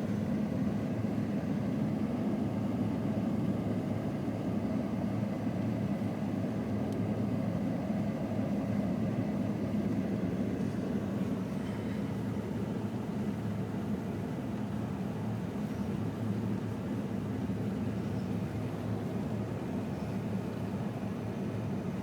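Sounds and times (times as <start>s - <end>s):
engine and road noise in cab: 0.0s - 22.0s.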